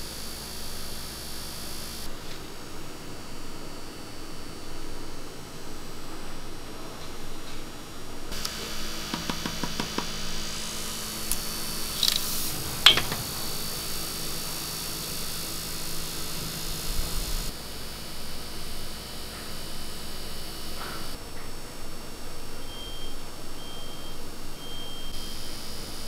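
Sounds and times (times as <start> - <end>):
cotton candy machine humming: 0.0 - 26.0.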